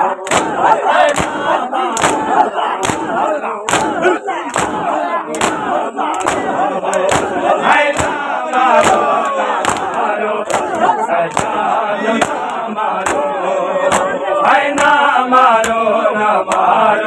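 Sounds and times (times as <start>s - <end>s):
crowd shouting and chanting: 0.0s - 17.0s
hands slapping chests in unison: 0.0s - 17.0s.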